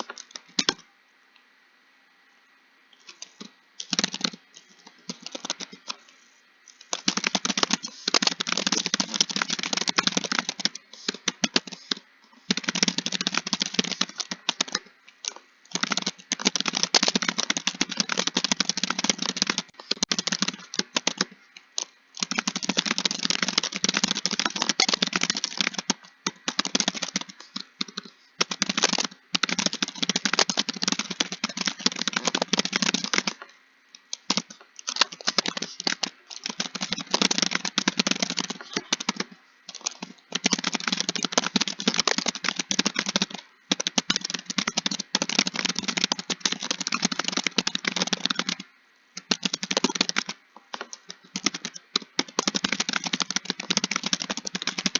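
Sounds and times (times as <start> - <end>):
keyboard typing: 0.0 - 0.8, 3.0 - 54.9.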